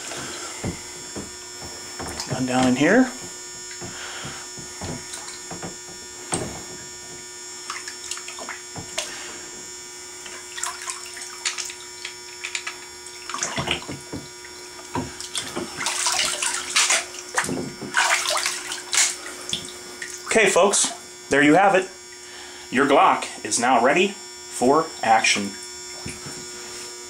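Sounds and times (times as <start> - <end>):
water running into tub: 0.0 - 9.6, 10.2 - 22.4, 25.4 - 26.4
electrical hum: 0.0 - 27.0.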